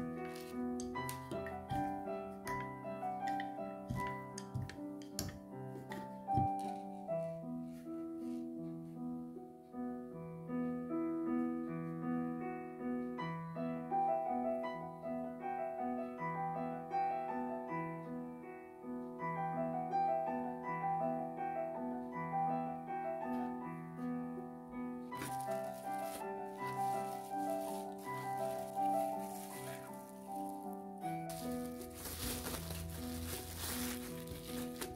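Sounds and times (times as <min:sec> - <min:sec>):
gentle piano music: 0:00.0 - 0:34.9.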